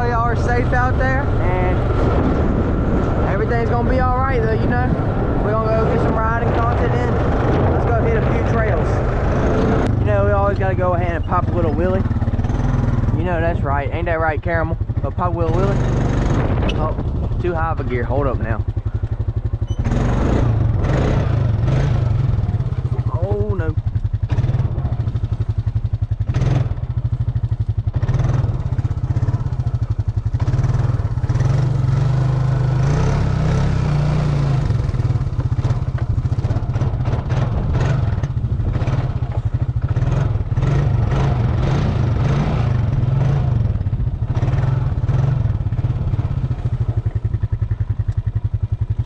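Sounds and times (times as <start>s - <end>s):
atv engine under throttle: 0.0s - 49.0s.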